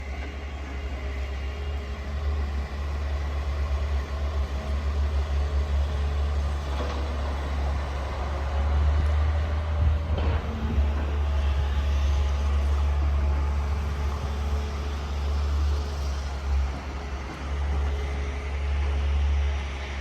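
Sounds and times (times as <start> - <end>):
heavy engine rumbling: 0.0 - 20.0.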